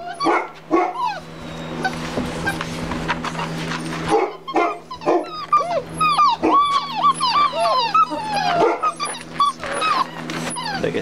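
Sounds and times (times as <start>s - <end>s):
puppies whining and yipping: 0.0s - 11.0s.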